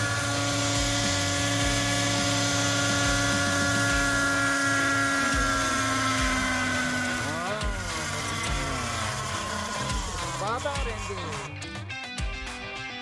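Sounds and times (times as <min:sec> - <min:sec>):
model helicopter whine: 0:00.0 - 0:11.6.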